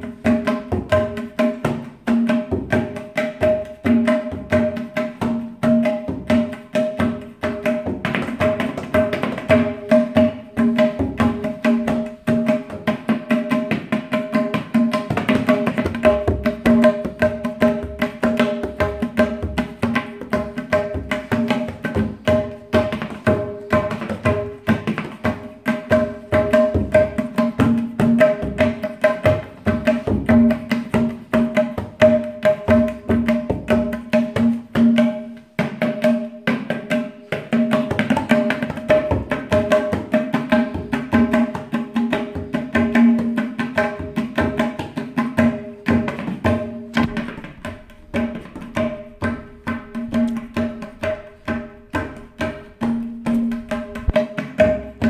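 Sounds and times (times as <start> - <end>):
tabla drumming: 0.0 - 55.0.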